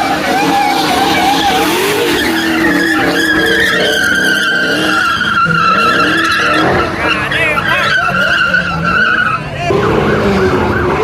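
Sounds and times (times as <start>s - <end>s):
car engine revving: 0.0s - 11.0s
car tyres squealing: 0.0s - 11.0s.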